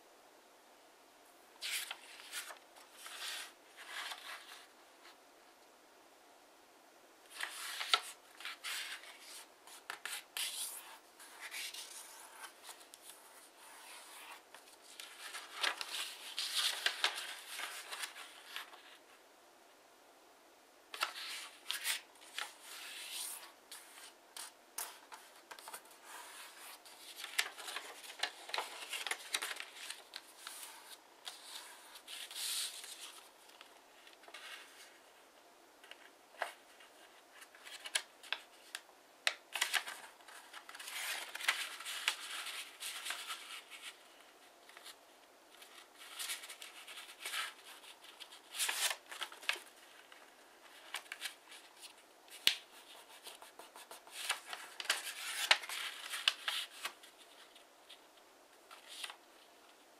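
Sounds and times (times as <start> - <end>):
paper rustling and crinkling: 1.6 - 4.7, 7.3 - 19.0, 20.9 - 35.1, 35.8 - 58.1, 58.7 - 59.8.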